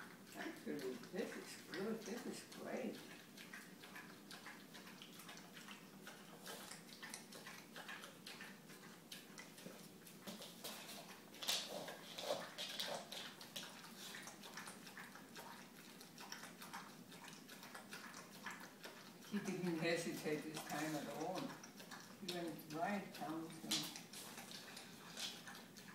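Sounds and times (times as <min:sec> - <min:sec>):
dog lapping and chewing: 0:00.0 - 0:25.9.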